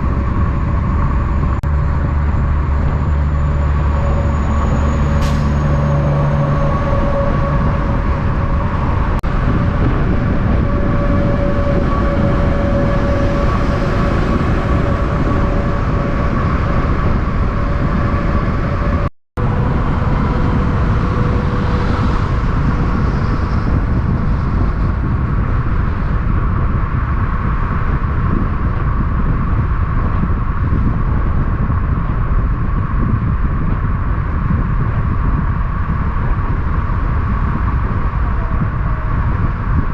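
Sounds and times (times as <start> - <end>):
trucks passing on road: 0.0 - 39.9.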